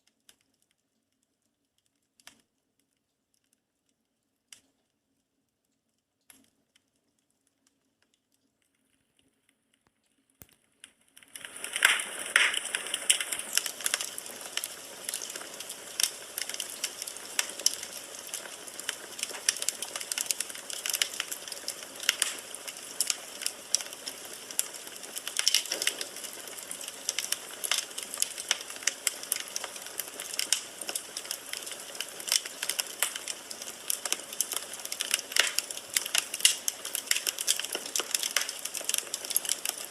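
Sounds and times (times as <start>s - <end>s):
firewood crackling and popping: 0.0s - 3.6s, 6.3s - 39.9s.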